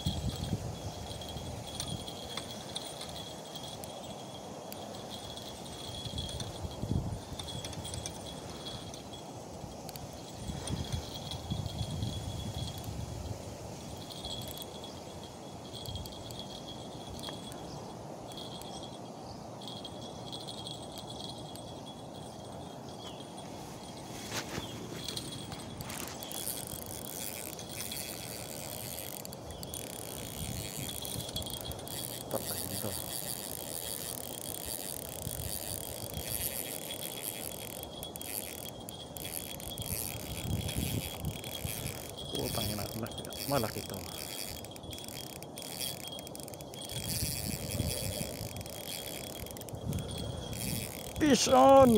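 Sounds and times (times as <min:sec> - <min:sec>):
fishing reel whirring: 0:00.0 - 0:51.9
insects chirring: 0:00.0 - 0:51.9.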